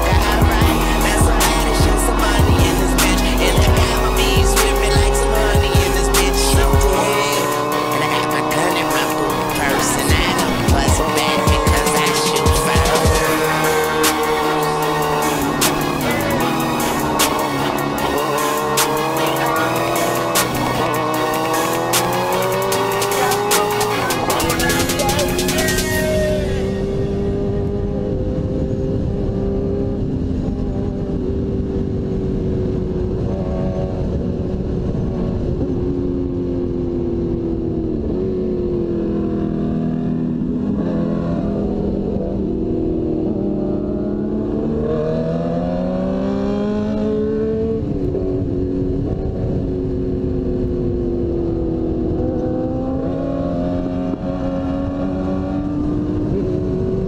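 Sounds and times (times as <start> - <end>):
motorcycle engine at speed: 0.0 - 57.0.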